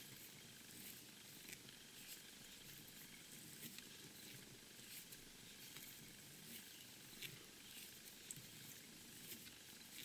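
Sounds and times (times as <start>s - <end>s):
faint steady hiss: 0.0s - 10.0s
fingers handling fibres: 0.0s - 10.0s.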